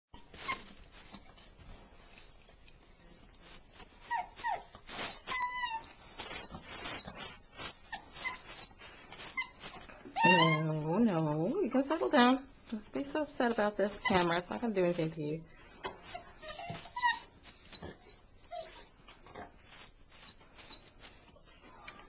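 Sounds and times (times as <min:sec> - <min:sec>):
puppy whimpers: 0:00.2 - 0:01.3, 0:03.2 - 0:22.0
puppies squeaking: 0:00.2 - 0:01.6, 0:03.0 - 0:22.0
paws scratching on plastic: 0:00.4 - 0:22.0.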